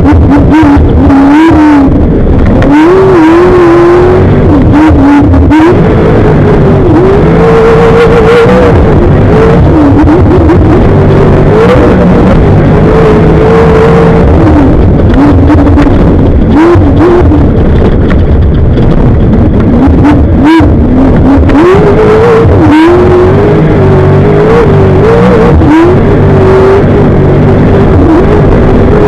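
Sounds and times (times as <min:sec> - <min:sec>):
race vehicle engine revving: 0:00.0 - 0:29.0
rushing noise: 0:00.0 - 0:29.0.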